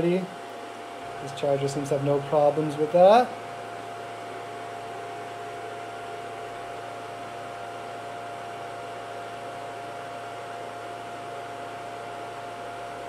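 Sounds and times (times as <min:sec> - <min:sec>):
cooling fans rushing air: 0:00.0 - 0:13.0
steady whine: 0:00.0 - 0:13.0.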